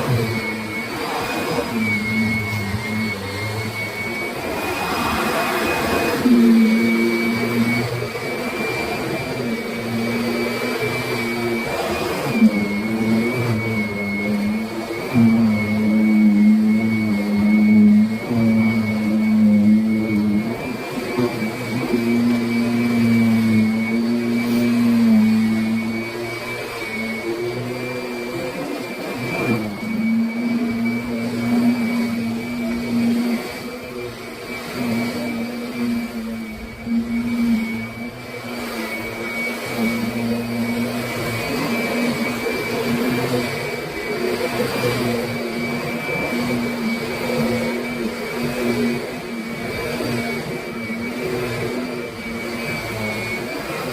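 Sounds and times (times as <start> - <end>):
upright vacuum cleaner running: 0.0 - 53.9.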